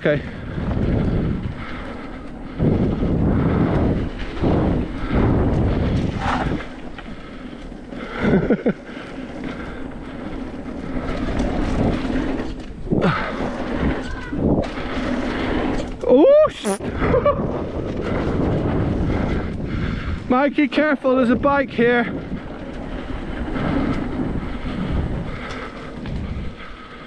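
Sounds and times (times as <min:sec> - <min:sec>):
bike tyres rolling on dirt: 0:00.0 - 0:27.0
wind buffeting microphone: 0:00.0 - 0:27.0.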